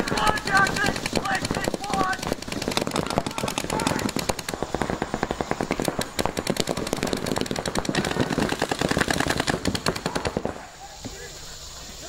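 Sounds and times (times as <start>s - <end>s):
paintball markers firing rapidly: 0.0s - 10.6s.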